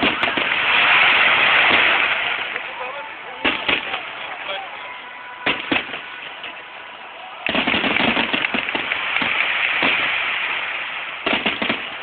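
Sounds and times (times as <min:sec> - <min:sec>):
fireworks bangs: 0:00.0 - 0:12.0
fireworks crackling barrage: 0:00.0 - 0:12.0.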